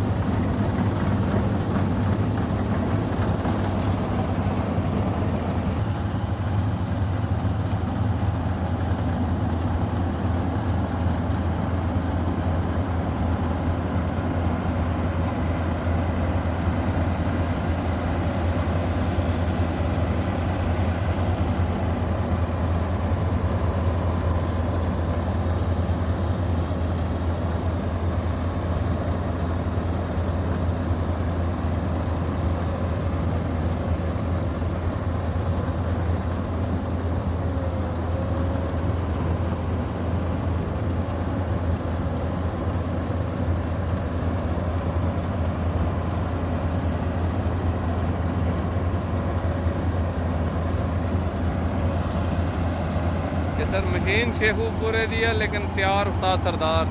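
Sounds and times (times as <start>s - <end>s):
combine harvester engine drone: 0.0s - 56.9s.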